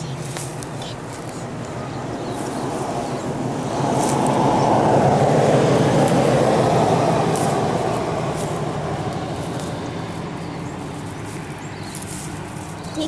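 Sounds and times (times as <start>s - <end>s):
passing vehicle engine rumble: 0.0s - 13.0s.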